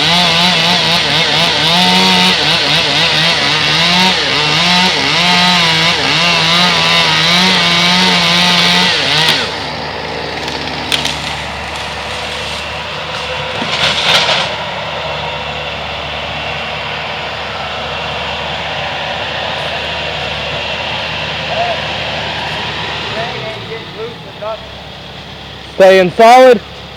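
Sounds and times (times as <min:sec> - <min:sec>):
chainsaw cutting and idling: 0:00.0 - 0:26.9.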